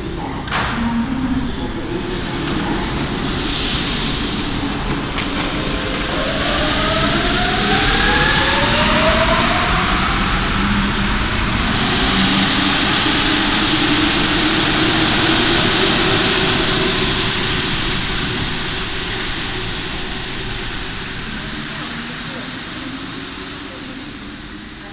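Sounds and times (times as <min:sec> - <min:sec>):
metro train electric whine: 0:00.0 - 0:24.9
train cars rushing past: 0:00.8 - 0:24.9.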